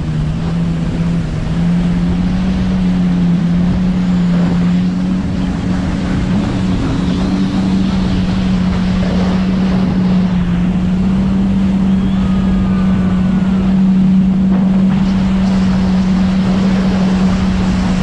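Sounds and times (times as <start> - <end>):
motorboat engine drone: 0.0 - 18.0
water and spray rushing: 0.0 - 18.0
wind buffeting microphone: 0.0 - 18.0.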